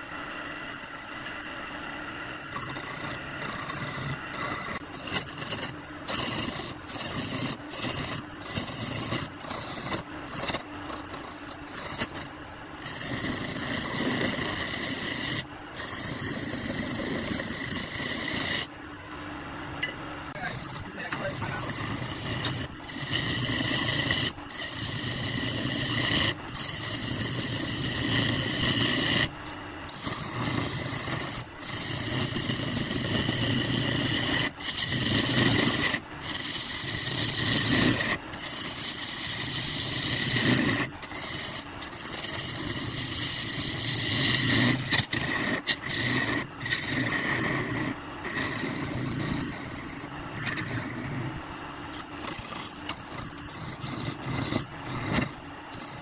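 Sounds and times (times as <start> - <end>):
turning tool scraping spinning wood: 0.0 - 18.7, 19.8 - 56.0
lathe motor hum: 0.0 - 56.0.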